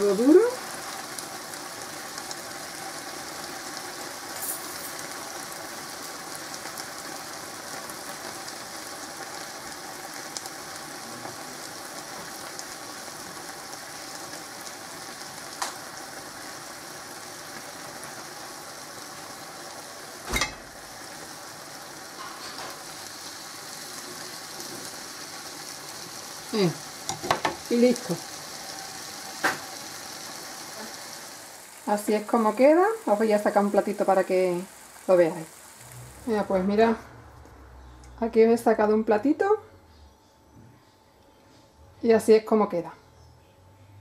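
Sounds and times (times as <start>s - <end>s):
food sizzling in a frying pan: 0.0s - 39.5s.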